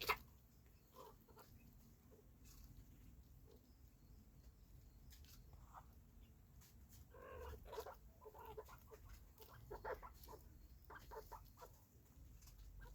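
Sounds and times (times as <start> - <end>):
quails chattering: 0.0 - 12.9.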